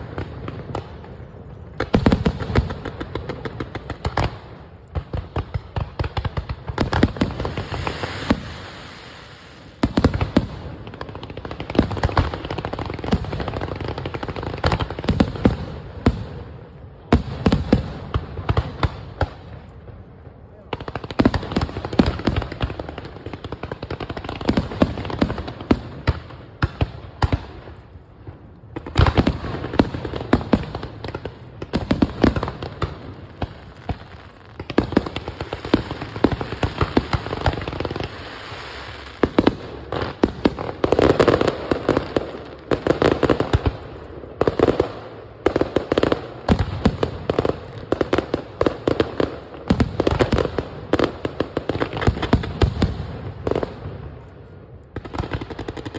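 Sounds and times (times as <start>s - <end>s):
fireworks cracking and popping: 0.0s - 55.9s.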